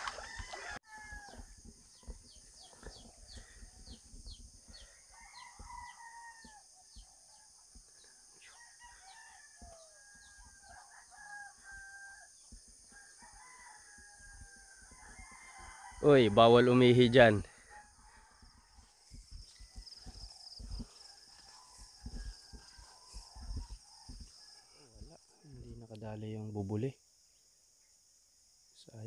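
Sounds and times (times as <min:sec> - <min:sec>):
roosters crowing faintly: 0:00.0 - 0:25.9.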